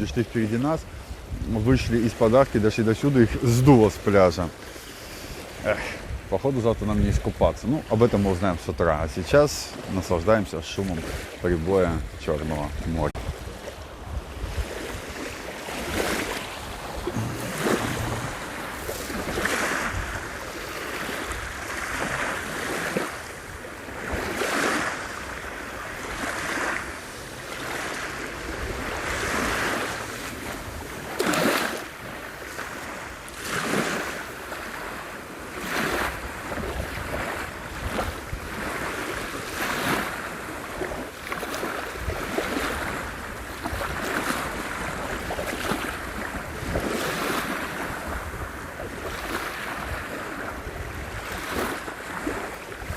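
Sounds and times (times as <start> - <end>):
surf breaking on shore: 0.0 - 52.9
wind rumbling on microphone: 0.0 - 52.9.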